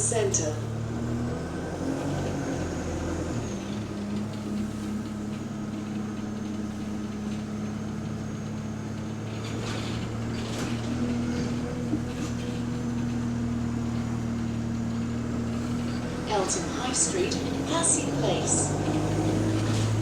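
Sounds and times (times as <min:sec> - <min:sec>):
bus engine humming: 0:00.0 - 0:20.0.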